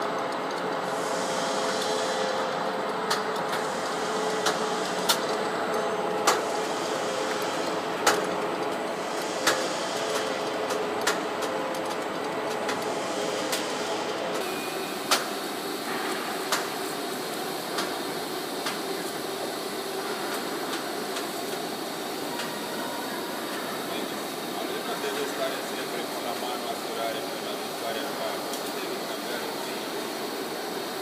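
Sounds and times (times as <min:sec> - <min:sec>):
lathe mechanical hum: 0:00.0 - 0:31.0.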